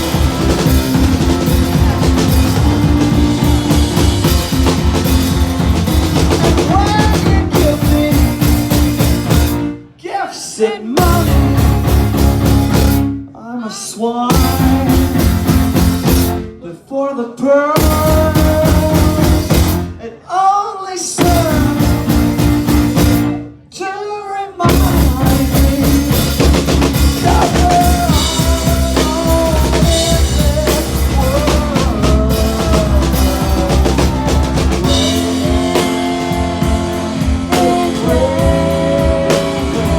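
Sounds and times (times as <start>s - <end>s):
live rock band: 0.0s - 10.0s, 11.0s - 13.2s, 14.3s - 16.6s, 17.8s - 20.0s, 21.2s - 23.7s, 24.6s - 39.9s
person singing: 0.0s - 12.4s, 13.4s - 39.9s.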